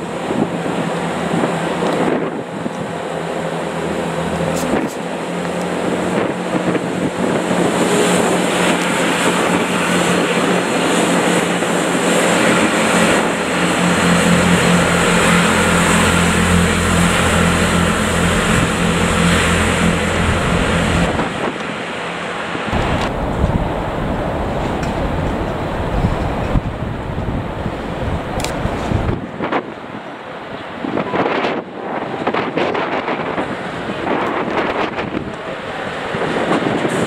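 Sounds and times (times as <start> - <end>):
train engine drone: 0.0 - 37.0
wheel and rail noise: 0.0 - 37.0.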